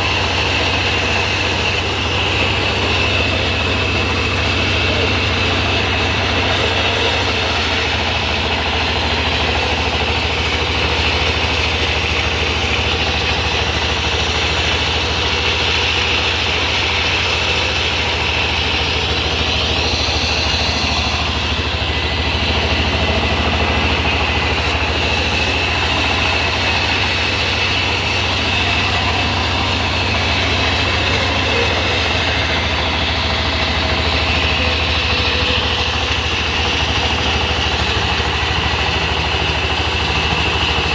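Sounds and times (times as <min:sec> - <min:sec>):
sawmill engine humming: 0:00.0 - 0:40.9.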